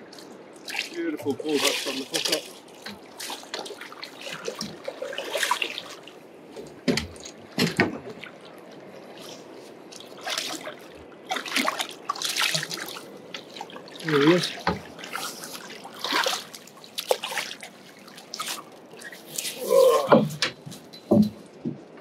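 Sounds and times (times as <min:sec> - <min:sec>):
sea water splashing: 0:00.0 - 0:20.4.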